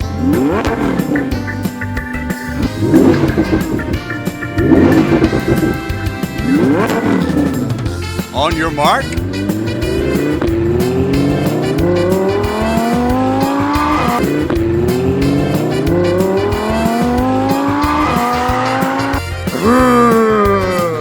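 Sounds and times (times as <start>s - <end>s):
background music with steady beat: 0.0s - 21.0s
race car engine accelerating: 0.0s - 21.0s.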